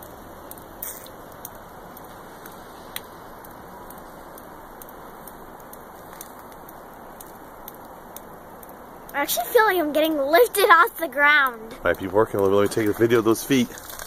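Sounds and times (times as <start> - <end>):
low background hiss: 0.0 - 14.0.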